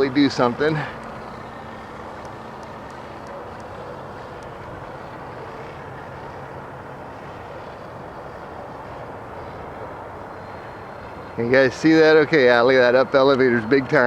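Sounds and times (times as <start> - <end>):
model plane propeller drone: 0.0 - 14.0.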